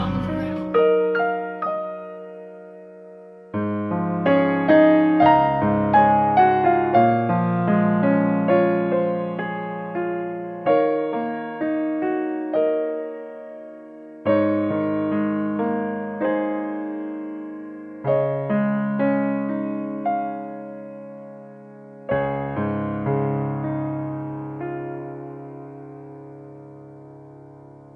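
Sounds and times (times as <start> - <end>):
soft piano chords: 0.0 - 27.9.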